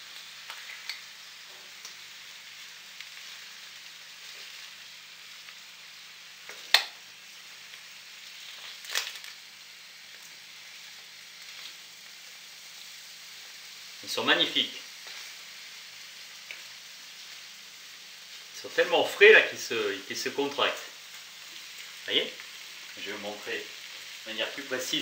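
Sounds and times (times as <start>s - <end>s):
livers sizzling in a frying pan: 0.0s - 25.0s.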